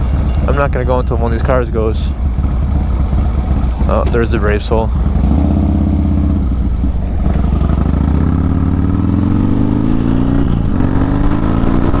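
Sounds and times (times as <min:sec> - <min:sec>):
motorcycle engine accelerating: 0:01.9 - 0:12.0.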